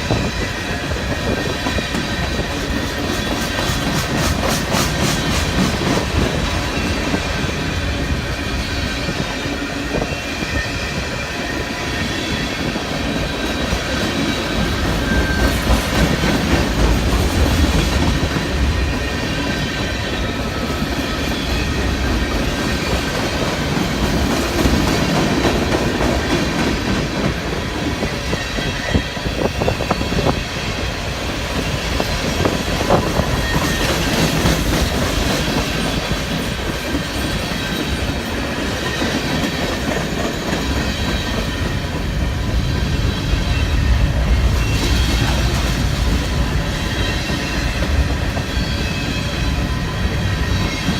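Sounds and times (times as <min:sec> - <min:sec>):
steel wheels rolling on rail: 0:00.0 - 0:50.9.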